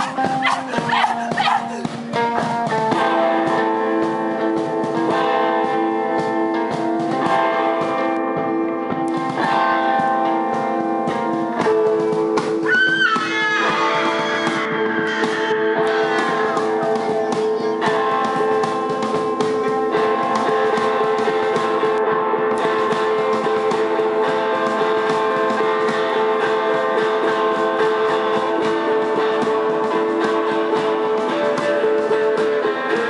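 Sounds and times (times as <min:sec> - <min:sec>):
drum and cymbal hits: 0:00.0 - 0:33.0
guitar chords ringing: 0:00.0 - 0:33.0
rock band playing: 0:00.0 - 0:33.0.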